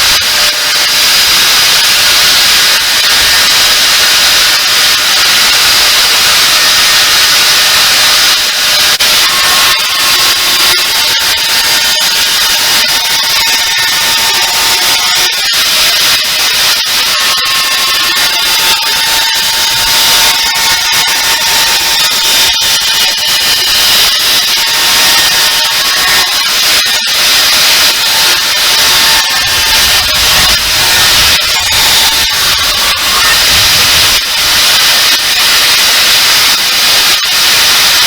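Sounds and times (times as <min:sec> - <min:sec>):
angle grinder grinding steel: 0:00.0 - 0:38.0.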